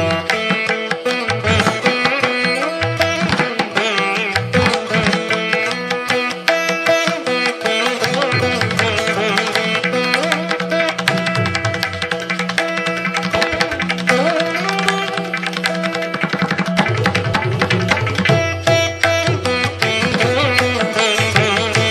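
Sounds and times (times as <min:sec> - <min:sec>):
plucked strings melody: 0:00.0 - 0:21.9
tabla beat: 0:00.0 - 0:21.9.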